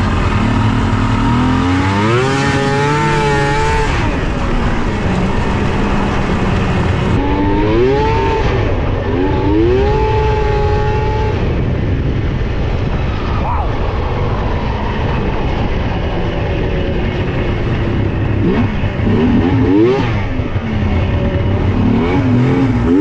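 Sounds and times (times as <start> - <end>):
snowmobile engine revving: 0.0 - 11.7, 12.7 - 23.0.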